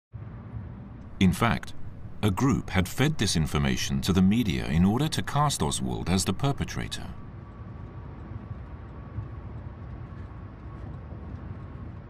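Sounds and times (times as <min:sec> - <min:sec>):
low background rumble: 0:00.2 - 0:12.0.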